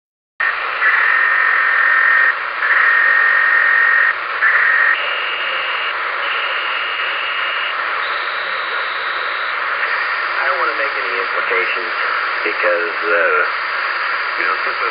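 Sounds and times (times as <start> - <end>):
radio static hiss: 0.4 - 14.9.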